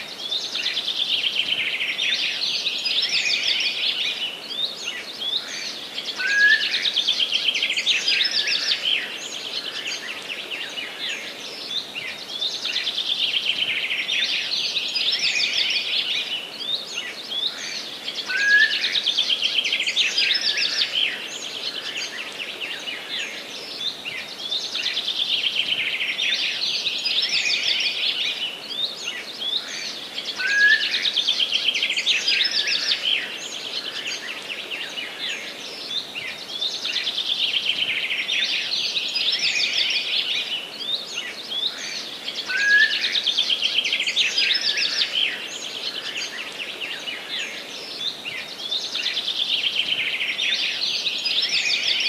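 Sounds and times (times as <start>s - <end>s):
faint forest ambience hiss: 0.0s - 52.0s.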